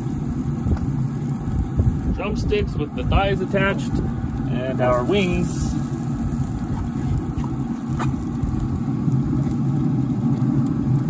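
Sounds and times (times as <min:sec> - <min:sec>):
grill rumbling and humming: 0:00.0 - 0:11.0.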